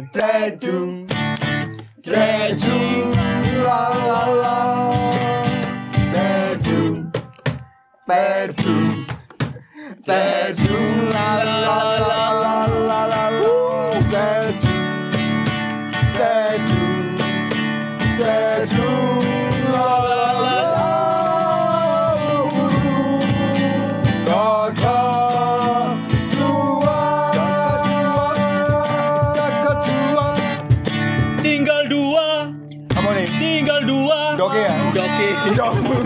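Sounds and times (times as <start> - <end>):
men singing together: 0.0 - 1.1, 2.0 - 7.2, 8.1 - 9.1, 9.8 - 15.0, 16.0 - 30.6, 33.0 - 36.0
acoustic guitar strumming: 0.0 - 36.0.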